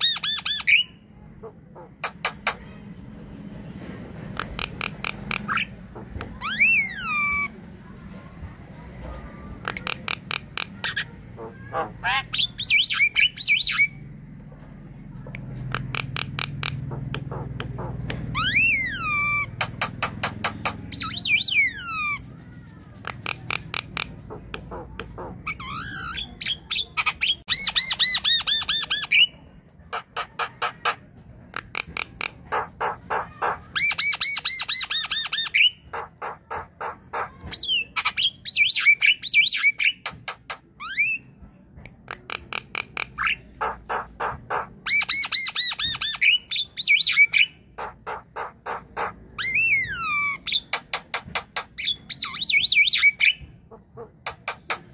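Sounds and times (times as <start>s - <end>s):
bird chattering and whistling: 0.0s - 2.6s, 4.4s - 7.5s, 9.6s - 14.0s, 15.7s - 41.4s, 42.1s - 54.9s.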